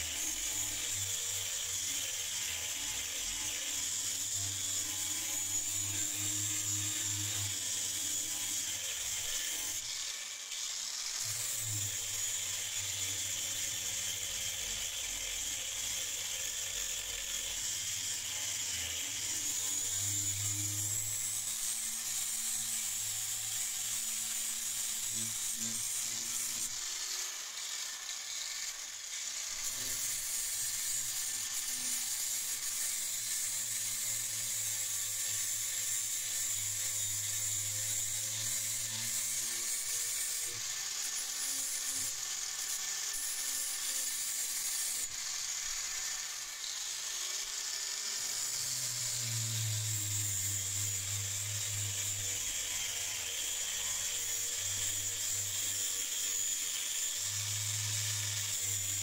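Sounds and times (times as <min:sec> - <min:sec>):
grinder motor hum: 0:00.0 - 0:34.0, 0:36.1 - 0:59.0.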